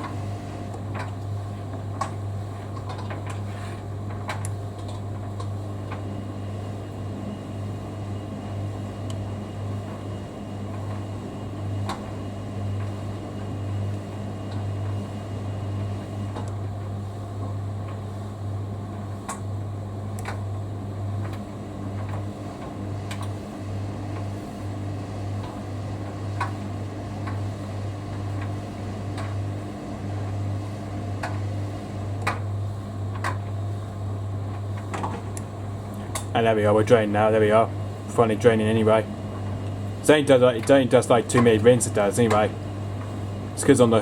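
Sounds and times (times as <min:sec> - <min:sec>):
washing machine motor hum: 0:00.0 - 0:44.0.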